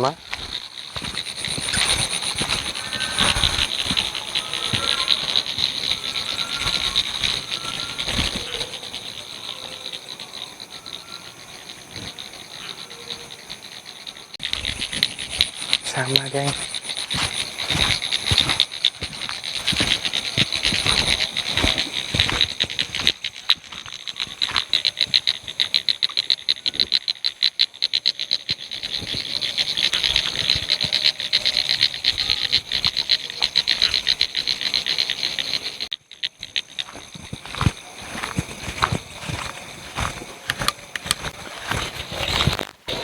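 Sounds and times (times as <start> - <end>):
frogs calling in chorus: 0.0 - 43.0
high insect trill: 0.0 - 43.0.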